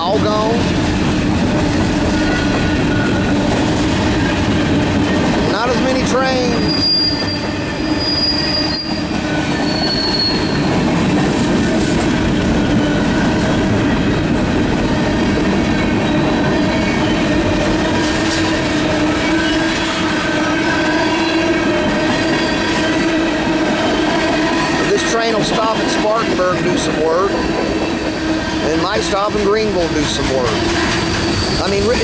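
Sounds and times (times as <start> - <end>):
freight train wheels rumbling: 0.0 - 32.0
wheels squealing: 1.9 - 14.0, 14.8 - 32.0.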